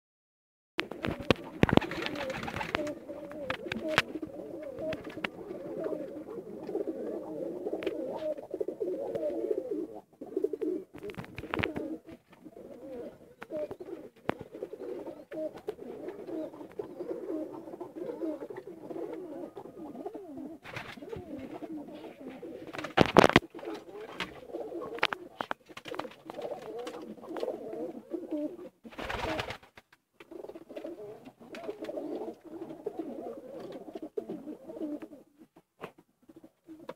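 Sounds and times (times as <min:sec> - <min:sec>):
pigeons cooing: 0:00.8 - 0:29.6, 0:30.2 - 0:35.6, 0:36.3 - 0:36.9.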